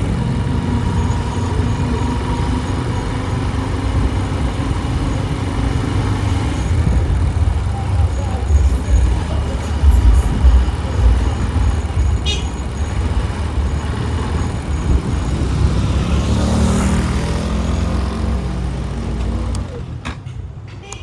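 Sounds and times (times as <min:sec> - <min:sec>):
passing vehicle engine: 0:00.0 - 0:20.8
motorbike engine rumble: 0:00.0 - 0:21.0.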